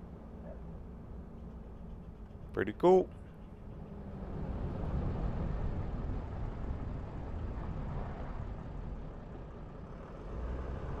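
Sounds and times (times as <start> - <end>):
van engine and tyre rumble: 0.0 - 11.0.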